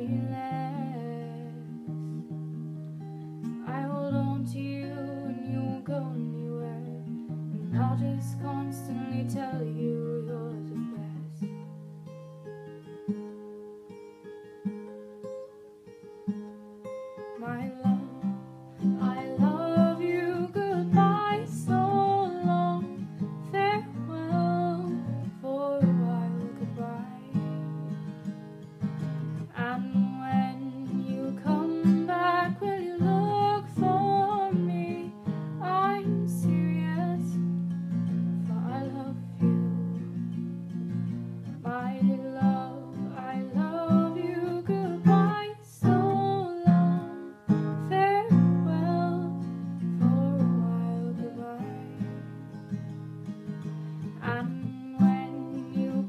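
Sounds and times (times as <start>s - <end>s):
woman singing: 0.0s - 2.3s, 3.4s - 11.6s, 17.3s - 28.3s, 29.2s - 40.2s, 41.5s - 52.9s, 53.6s - 56.0s
acoustic guitar strummed: 0.0s - 56.0s.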